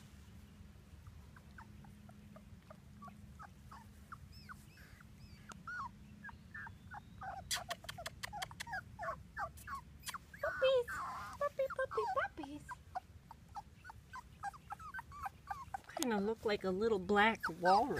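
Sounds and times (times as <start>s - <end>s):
puppy squeaking and whimpering: 1.3s - 17.9s.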